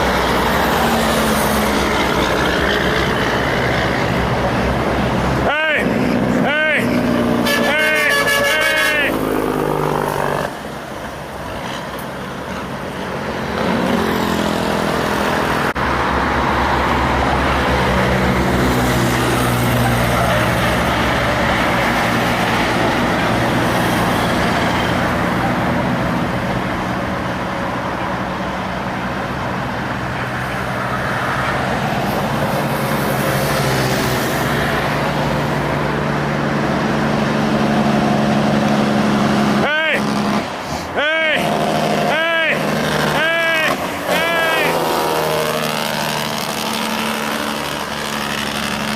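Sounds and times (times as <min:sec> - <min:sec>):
diesel truck engines passing: 0:00.0 - 0:48.9
traffic noise: 0:00.0 - 0:48.9.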